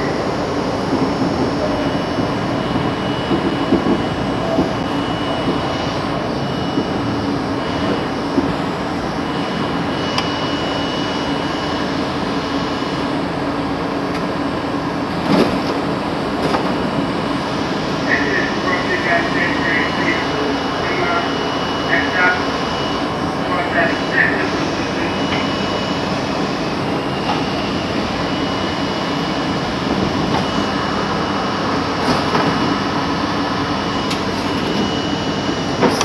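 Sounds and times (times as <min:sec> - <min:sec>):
subway car hum: 0:00.0 - 0:36.0.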